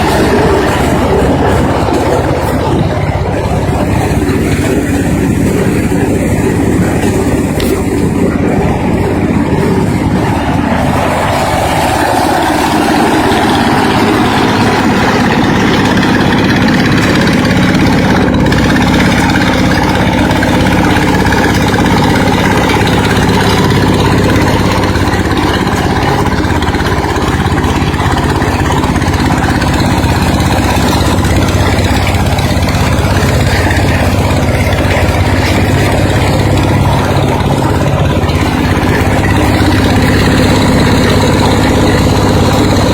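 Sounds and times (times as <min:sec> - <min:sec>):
corn sheller engine running: 0:00.0 - 0:42.9.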